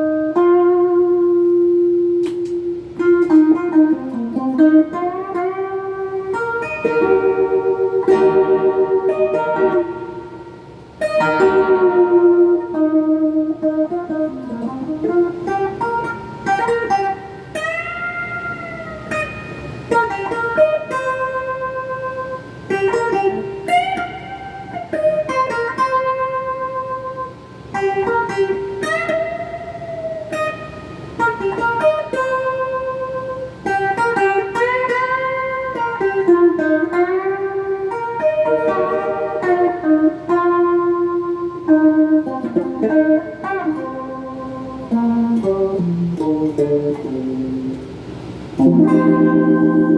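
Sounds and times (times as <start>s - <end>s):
electric guitar lead line: 0.0s - 49.9s.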